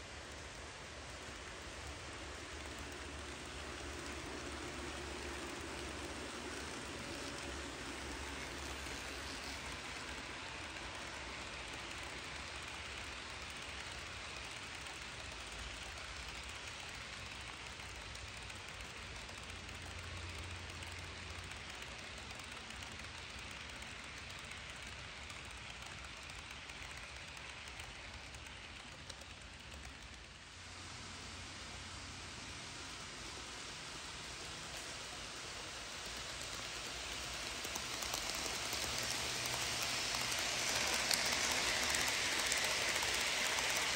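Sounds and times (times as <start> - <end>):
model train wheels clattering: 0.0 - 43.9.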